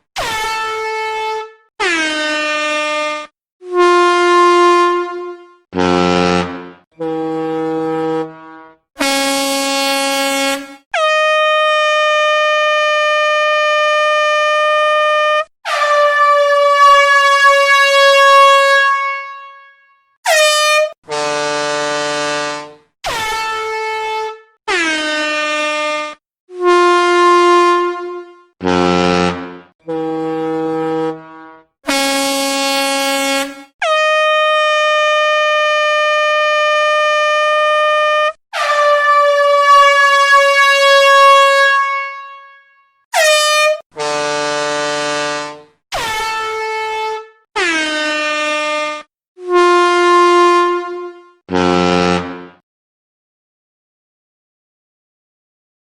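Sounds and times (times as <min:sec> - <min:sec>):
air horn blasts: 0:00.0 - 0:52.6.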